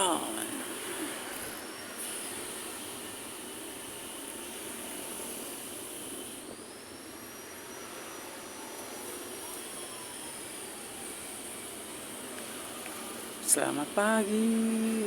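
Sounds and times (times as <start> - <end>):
high-pitched whine: 0.0 - 15.0
road traffic noise: 0.0 - 15.0.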